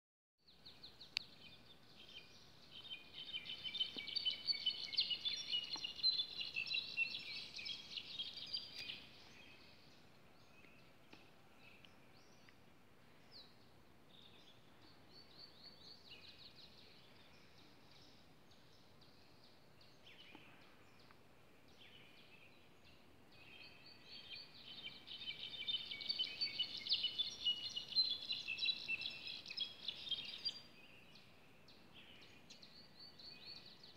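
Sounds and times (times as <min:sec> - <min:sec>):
songbird singing ringing phrases: 0:00.5 - 0:12.7, 0:13.3 - 0:33.9.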